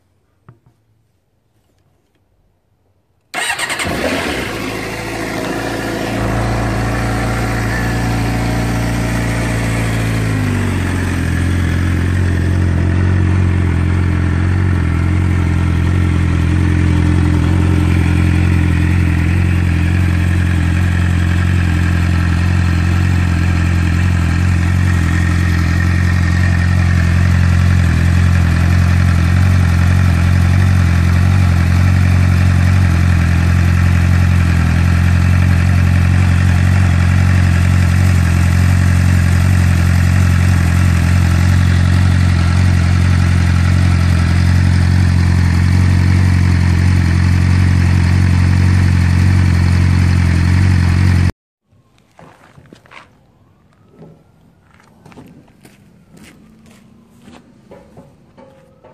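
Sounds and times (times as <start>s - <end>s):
motorcycle engine idling: 3.4s - 51.3s.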